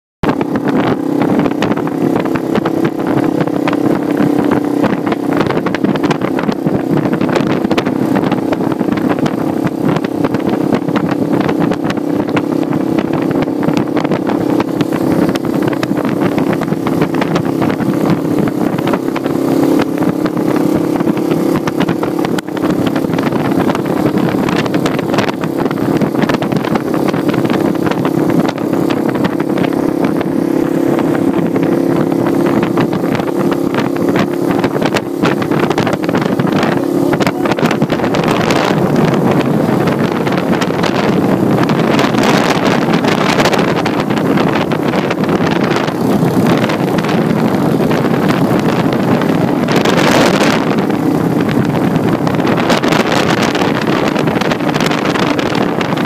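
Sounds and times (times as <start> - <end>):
motorcycle engine cruising: 0.2 - 56.0
wind rushing over microphone: 0.2 - 56.0.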